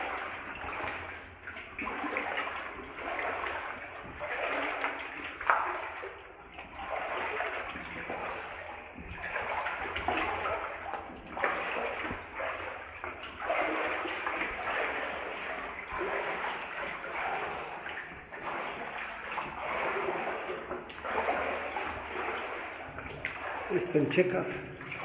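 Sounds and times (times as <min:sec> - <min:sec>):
wading splashes in water: 0:00.0 - 0:25.0.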